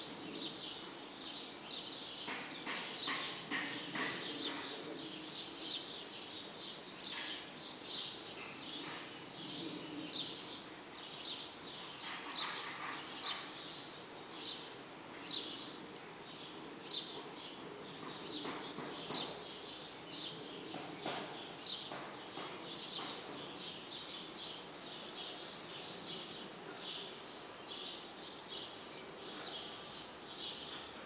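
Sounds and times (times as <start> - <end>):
low outdoor hum: 0.0 - 31.0
small birds chirping: 0.0 - 31.0.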